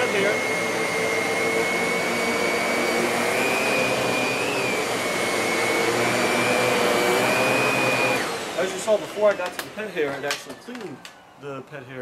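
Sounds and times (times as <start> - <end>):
vacuum cleaner running on carpet: 0.0 - 10.8.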